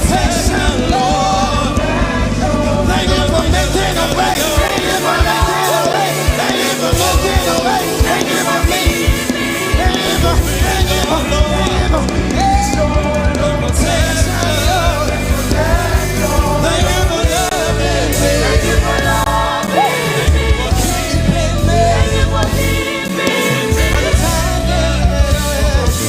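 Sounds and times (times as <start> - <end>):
gospel band and singers: 0.0 - 26.0
sustained bass line: 0.0 - 26.0.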